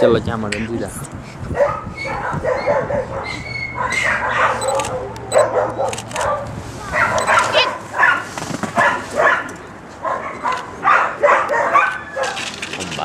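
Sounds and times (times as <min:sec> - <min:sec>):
dog barking: 0:01.5 - 0:12.4.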